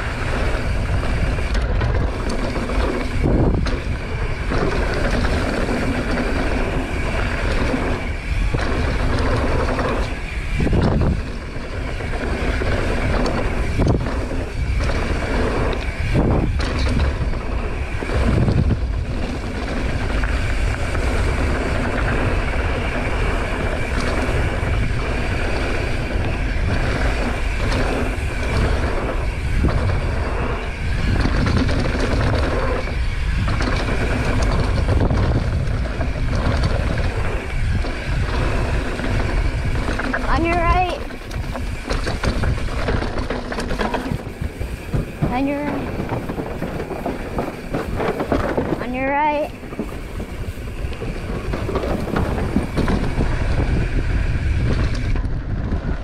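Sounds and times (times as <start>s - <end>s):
bike rattling: 0.0s - 56.0s
bike tyres rolling: 0.0s - 56.0s
wind over microphone: 0.0s - 56.0s.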